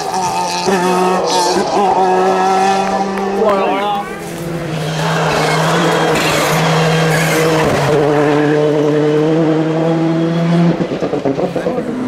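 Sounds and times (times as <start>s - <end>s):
rally car engine at full throttle: 0.0s - 12.0s.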